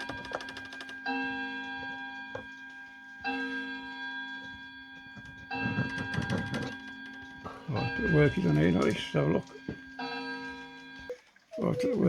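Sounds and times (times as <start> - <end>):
wall clock gong: 1.0 - 11.1.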